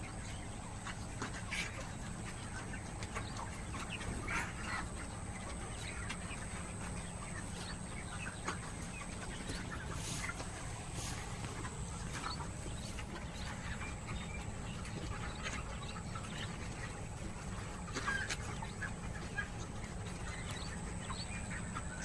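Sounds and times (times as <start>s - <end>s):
chicks cheeping: 0.0s - 22.0s
steady low hum: 0.0s - 22.0s.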